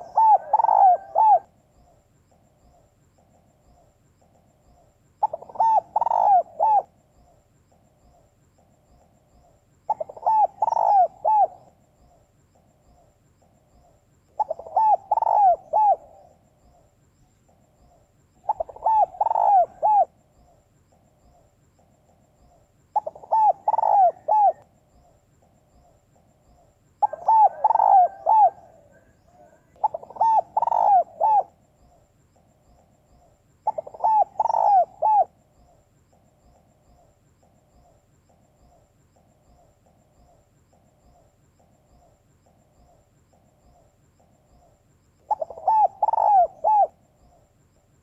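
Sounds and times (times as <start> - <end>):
dove cooing: 0.0 - 8.7, 9.4 - 16.9, 17.5 - 32.5, 33.1 - 47.4.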